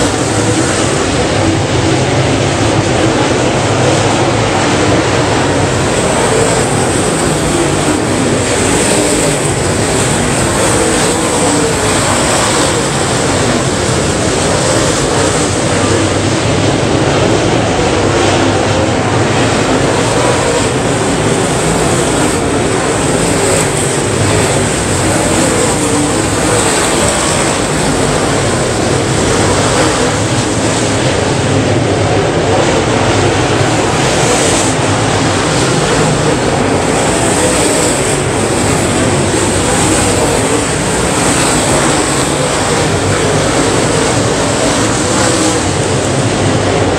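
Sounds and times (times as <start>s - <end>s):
race car engines roaring: 0.0s - 46.9s.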